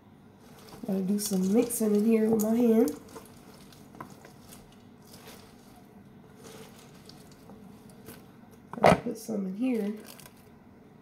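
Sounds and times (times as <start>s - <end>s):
food squishing mixed by hand: 0.3s - 8.8s, 9.6s - 10.6s.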